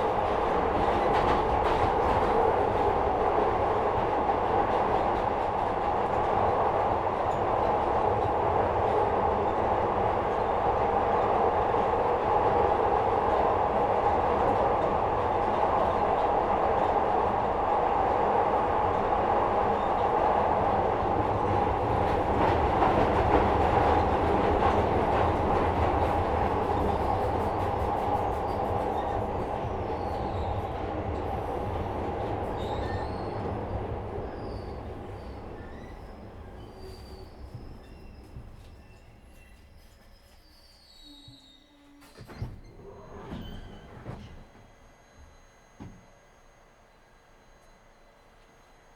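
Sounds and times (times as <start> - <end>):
train wheels running on rails: 0.0 - 48.8.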